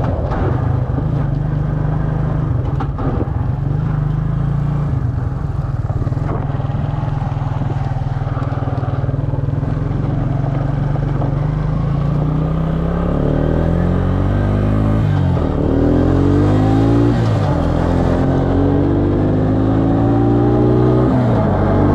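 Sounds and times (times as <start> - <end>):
quad engine revving: 2.0 - 21.9.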